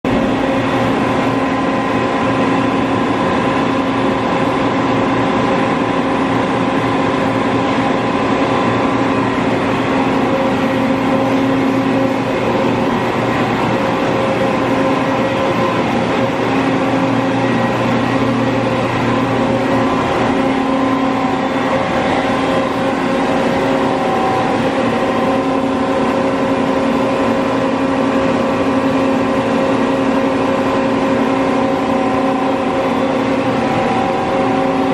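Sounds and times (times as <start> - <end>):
boring mill mechanical hum: 0.0 - 34.9.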